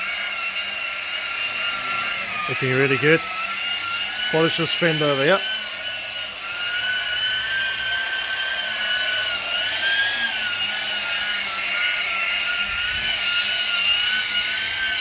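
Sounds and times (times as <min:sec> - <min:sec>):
polishing machine whining: 0:00.0 - 0:15.0.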